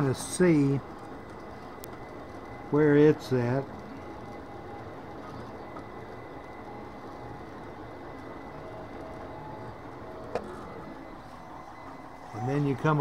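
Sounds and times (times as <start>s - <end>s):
printer fan hum: 0.0s - 13.0s
stepper motor tones: 0.0s - 13.0s.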